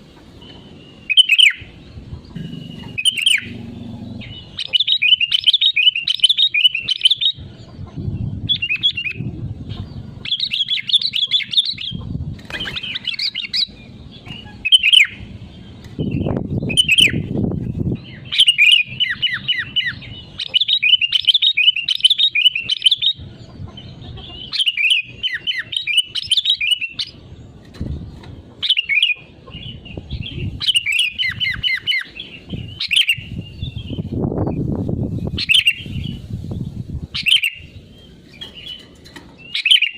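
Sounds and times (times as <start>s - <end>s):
bulbul chattering song: 0.2s - 27.6s, 28.6s - 39.9s.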